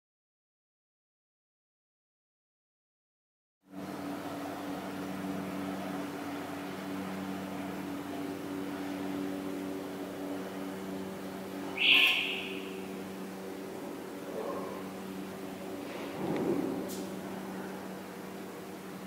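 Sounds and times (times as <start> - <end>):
machinery hum: 3.7 - 19.0.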